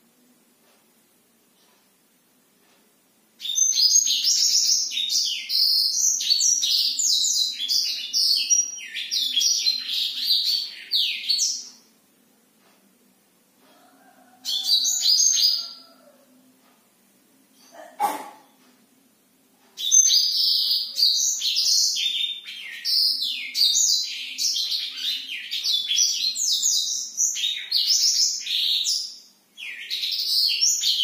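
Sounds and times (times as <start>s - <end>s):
canary singing chirps and trills: 3.4s - 12.7s, 13.5s - 18.8s, 19.6s - 31.0s.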